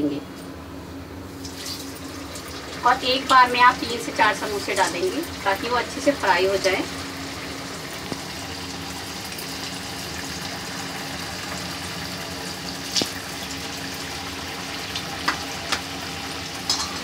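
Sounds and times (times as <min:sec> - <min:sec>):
food deep-frying in hot oil: 0:01.3 - 0:17.0.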